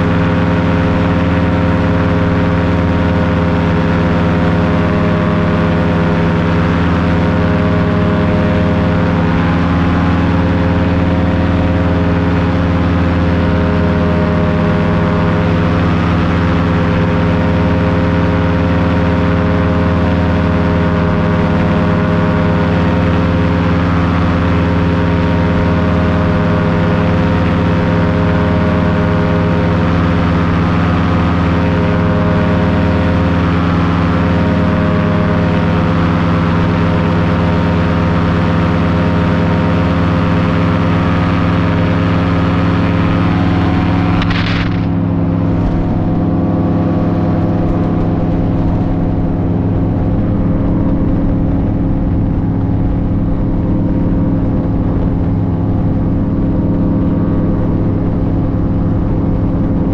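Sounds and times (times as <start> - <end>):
paramotor engine drone: 0.0 - 59.9.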